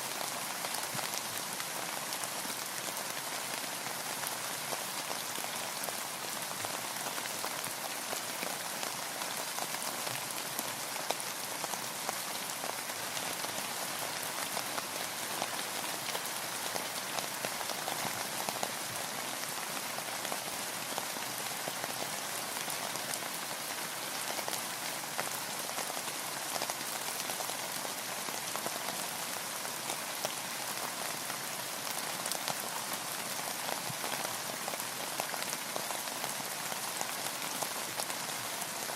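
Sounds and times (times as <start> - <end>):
rain falling on a boat: 0.0 - 38.9.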